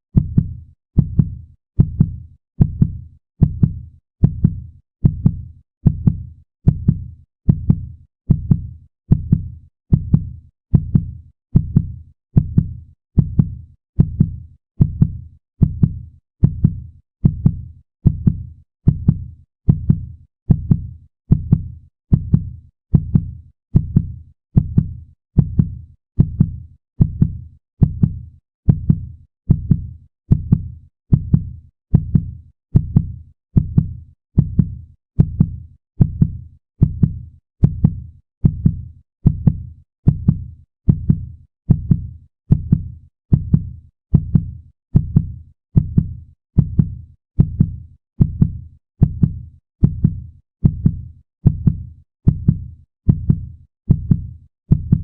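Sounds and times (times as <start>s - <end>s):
heartbeat thumps: 0.2s - 55.0s.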